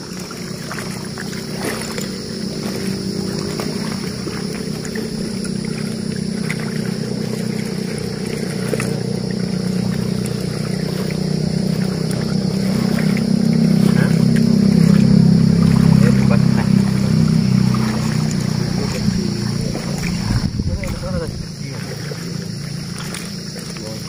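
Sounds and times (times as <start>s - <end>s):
motorboat engine humming: 0.0s - 24.0s.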